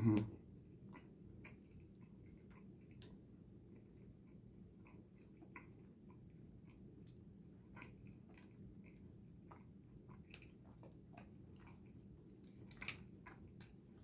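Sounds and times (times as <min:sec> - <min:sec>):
low room hum: 0:00.0 - 0:14.0
mouth clicks and smacks chewing: 0:00.1 - 0:14.0.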